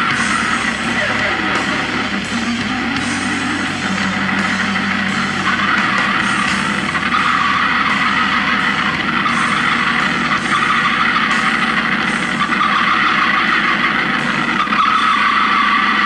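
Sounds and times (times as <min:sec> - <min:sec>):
extreme heavy music: 0:00.0 - 0:16.0.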